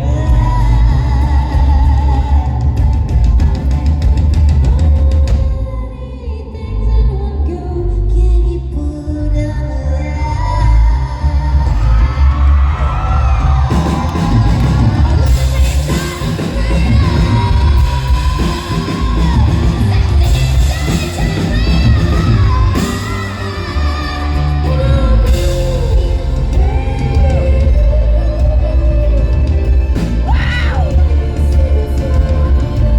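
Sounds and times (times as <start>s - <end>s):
live rock band: 0.0s - 5.8s, 11.0s - 32.9s
woman singing: 0.0s - 32.9s.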